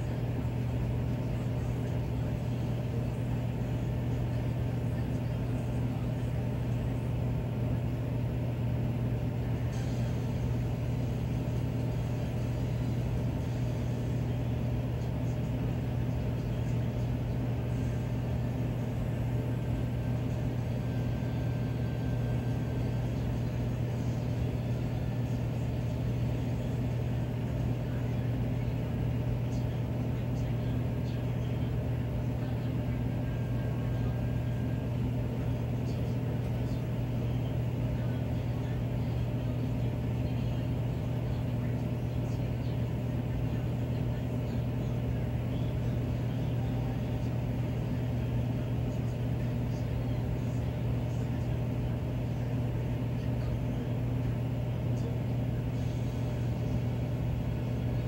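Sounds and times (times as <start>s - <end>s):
furnace blower humming: 0.0s - 58.0s.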